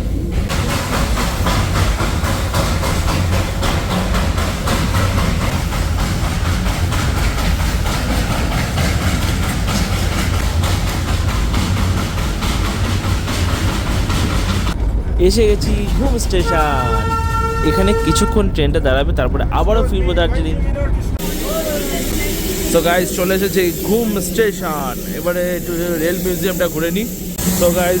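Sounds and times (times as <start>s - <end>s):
steam train rumbling and rattling: 0.0s - 28.0s.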